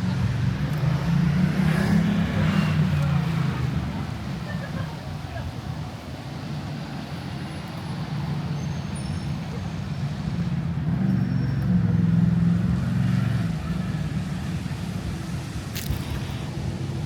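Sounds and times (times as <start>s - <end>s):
street background noise: 0.0s - 17.0s.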